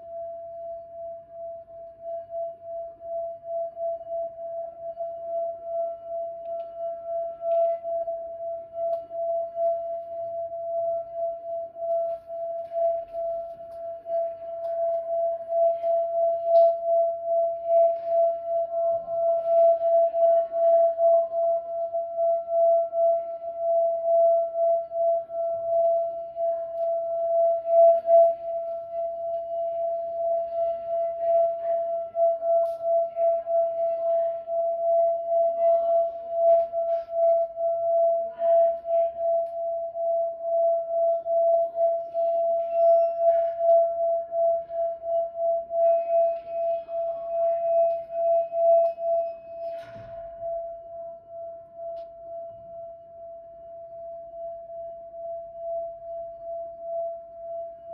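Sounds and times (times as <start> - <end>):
singing bowl sustained pulsing tone: 0.0 - 57.9.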